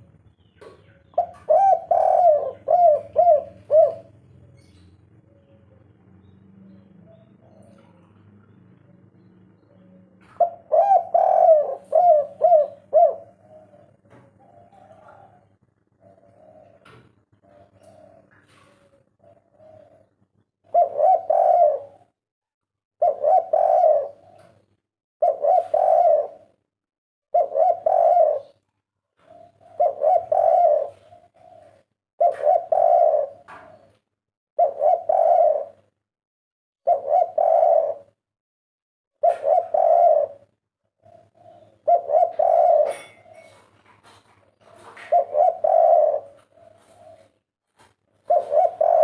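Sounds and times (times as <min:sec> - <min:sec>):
dove cooing: 0:00.0 - 0:06.3, 0:07.0 - 0:22.2, 0:23.0 - 0:26.7, 0:27.3 - 0:34.0, 0:34.6 - 0:36.0, 0:36.8 - 0:38.2, 0:39.2 - 0:49.0.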